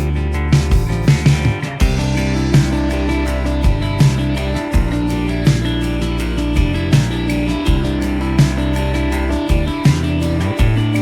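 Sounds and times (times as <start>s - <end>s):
guitar-led music with bass and beat: 0.0s - 11.0s.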